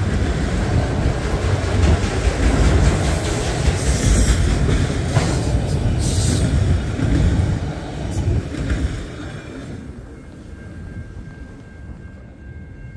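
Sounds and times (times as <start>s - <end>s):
train wheels rumbling on rail: 0.0s - 12.9s.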